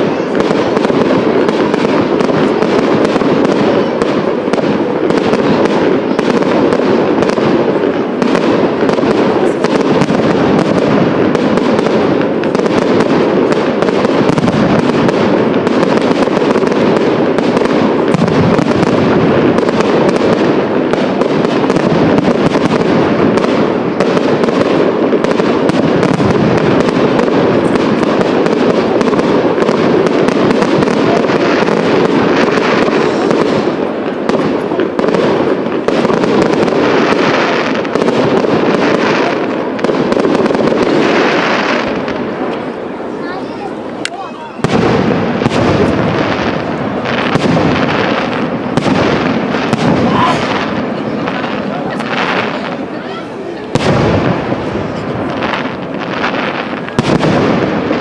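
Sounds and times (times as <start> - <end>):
fireworks crackling and popping: 0.0 - 58.0.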